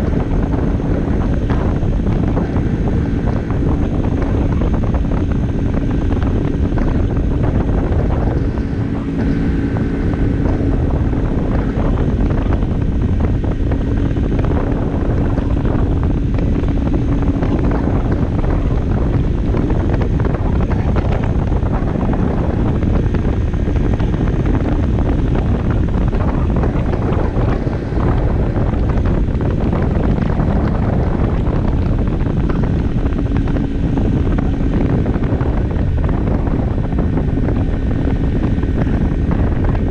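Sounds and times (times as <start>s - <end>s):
moped engine running: 0.0s - 39.9s
wind buffeting microphone: 0.0s - 39.9s.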